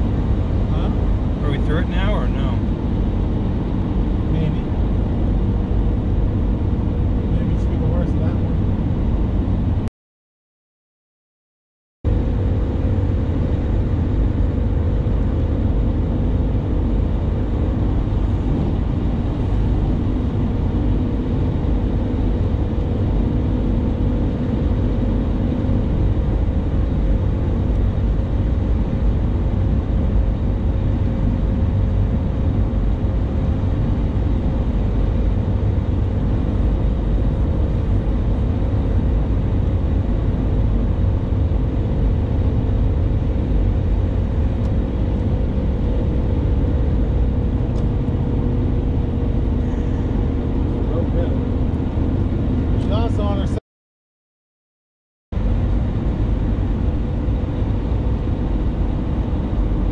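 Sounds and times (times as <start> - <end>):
car road noise: 0.0 - 9.9, 12.1 - 53.6
steady hum: 0.0 - 9.9, 12.1 - 53.6, 55.4 - 59.9.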